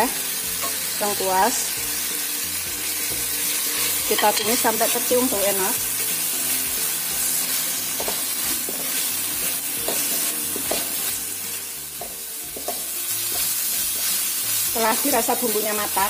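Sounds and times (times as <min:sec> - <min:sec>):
paste sizzling in oil: 0:00.0 - 0:16.0
spatula scraping wok: 0:00.4 - 0:01.2, 0:01.9 - 0:15.2.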